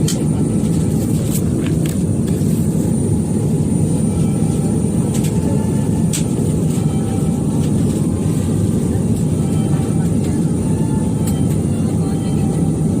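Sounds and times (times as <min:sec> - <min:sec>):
airplane cabin rumble: 0:00.0 - 0:13.0
faint high whine: 0:00.3 - 0:13.0.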